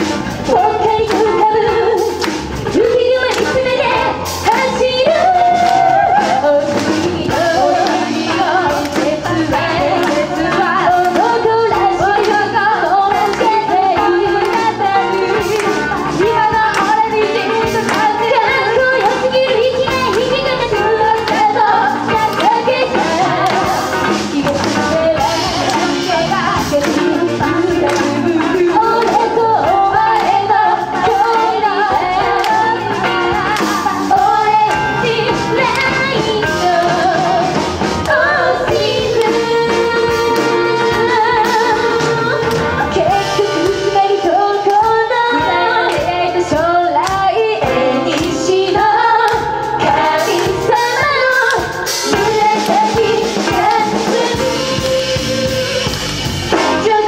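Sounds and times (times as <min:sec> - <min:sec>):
live band playing: 0:00.0 - 0:57.0
women singing pop song: 0:00.0 - 0:57.0.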